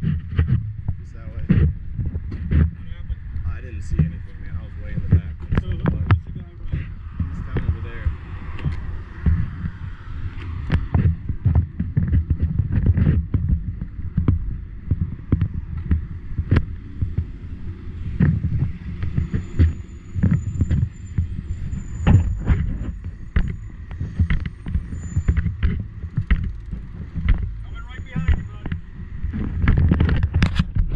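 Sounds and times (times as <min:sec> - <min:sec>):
scattered knocks and clicks: 0:00.0 - 0:30.9
vehicle noise: 0:00.0 - 0:30.9
wind buffeting microphone: 0:00.0 - 0:30.9.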